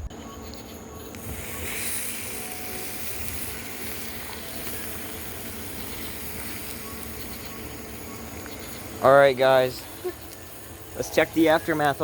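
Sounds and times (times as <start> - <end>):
faint fire crackles: 0.3 - 12.0
fire hissing and sizzling: 0.7 - 12.0.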